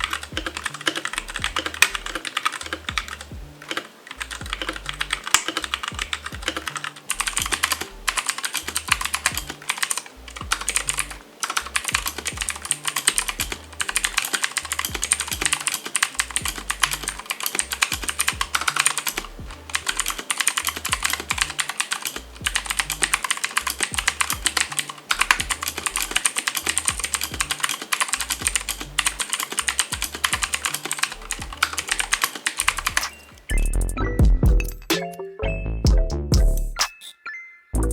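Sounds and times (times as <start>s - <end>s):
fast typing on mechanical keyboard: 0.0s - 33.2s.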